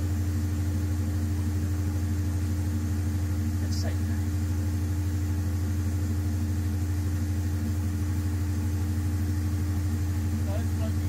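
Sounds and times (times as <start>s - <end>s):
generator engine droning: 0.0s - 11.0s
steady hum: 0.0s - 11.0s.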